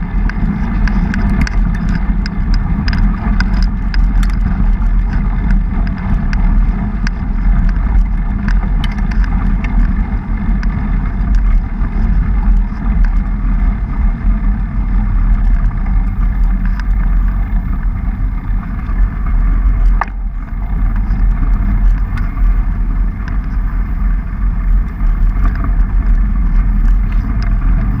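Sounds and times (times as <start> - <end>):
bike tyres on dirt road: 0.0 - 28.0
wind buffeting microphone: 0.0 - 28.0
light clicks and rattles: 0.1 - 13.3, 15.3 - 28.0.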